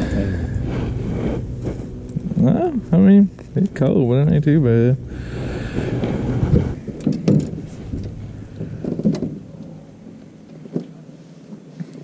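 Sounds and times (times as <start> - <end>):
low rumble: 0.0 - 10.5.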